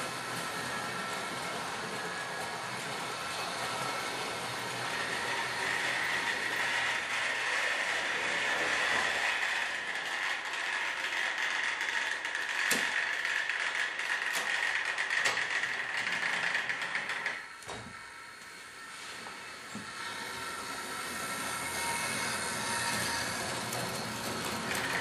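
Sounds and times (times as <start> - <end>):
model train motor whirring: 0.0 - 25.0
wheels clicking on track: 0.1 - 17.4, 20.4 - 25.0.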